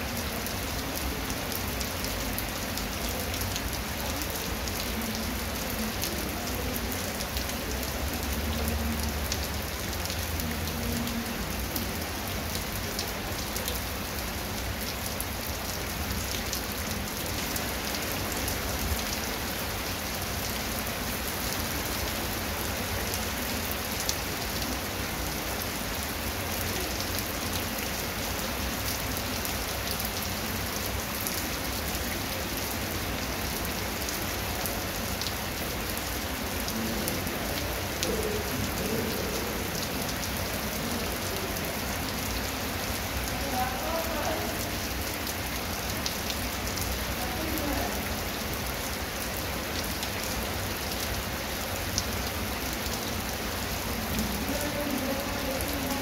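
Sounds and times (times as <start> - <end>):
heavy rain on concrete and grass: 0.0 - 56.0.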